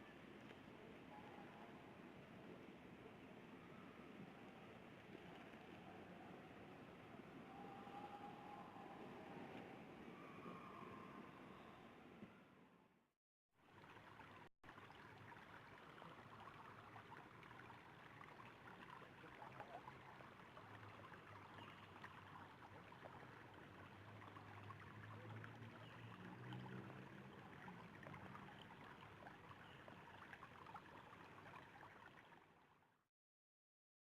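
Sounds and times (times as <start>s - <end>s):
stream running water: 0.0s - 11.6s, 13.6s - 33.0s.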